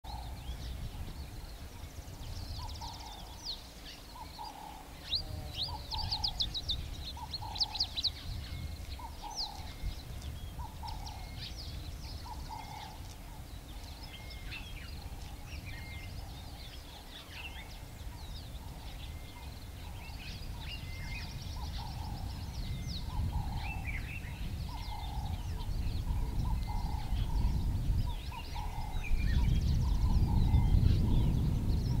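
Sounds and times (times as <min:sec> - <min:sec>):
birds chirping and trilling: 0:00.1 - 0:32.0.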